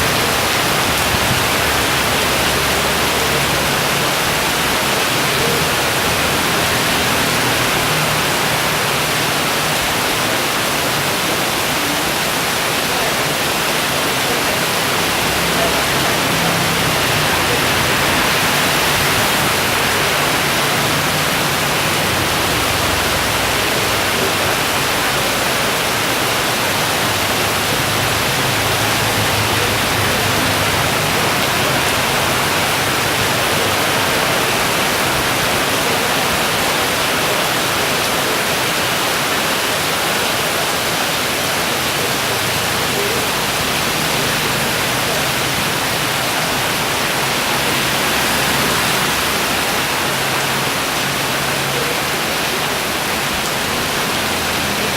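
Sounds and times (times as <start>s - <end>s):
heavy rain downpour: 0.0s - 54.9s.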